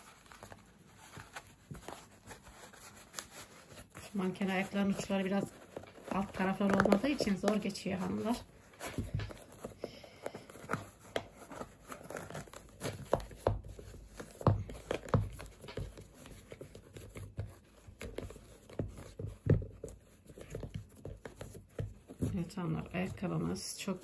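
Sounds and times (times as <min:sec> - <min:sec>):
yarn rubbing against plastic: 0:00.0 - 0:24.0.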